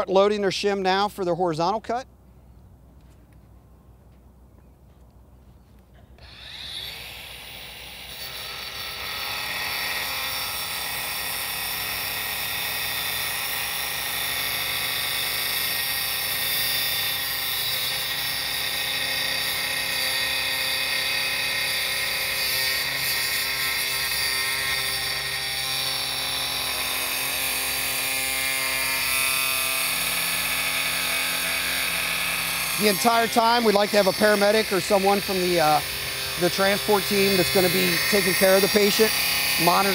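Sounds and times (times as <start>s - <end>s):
angle grinder cutting metal: 6.2s - 39.9s.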